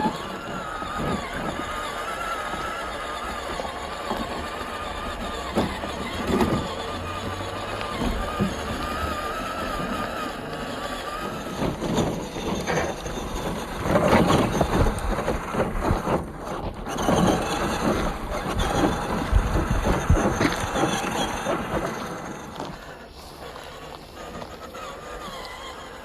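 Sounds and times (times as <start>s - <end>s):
toy car crunching over rocks: 0.0s - 26.0s.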